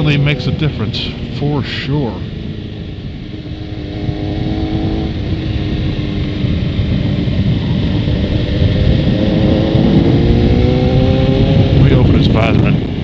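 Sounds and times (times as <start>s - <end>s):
motorcycle engine: 0.0s - 13.0s
wind rush: 0.0s - 13.0s.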